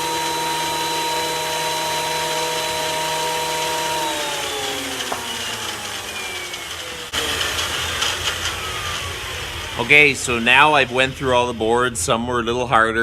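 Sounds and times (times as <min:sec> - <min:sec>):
benchtop planer running: 0:00.0 - 0:12.6.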